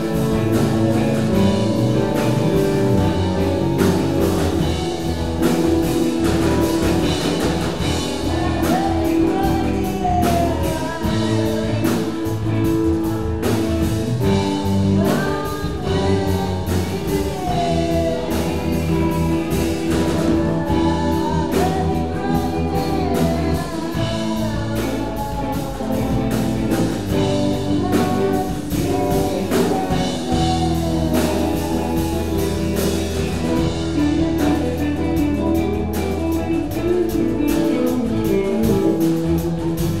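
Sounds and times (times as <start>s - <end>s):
live rock band playing: 0.0s - 40.0s
woman singing: 0.0s - 40.0s.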